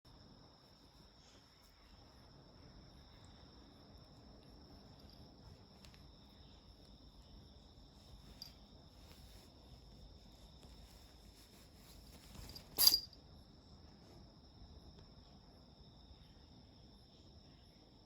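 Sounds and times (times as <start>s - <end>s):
faint high-pitched whine: 0.1s - 18.0s.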